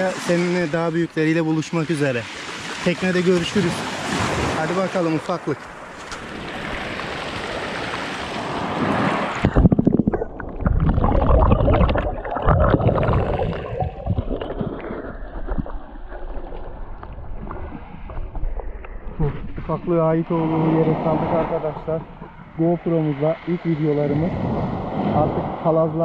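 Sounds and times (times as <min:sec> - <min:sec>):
underwater gurgling and sloshing: 0:00.0 - 0:26.0.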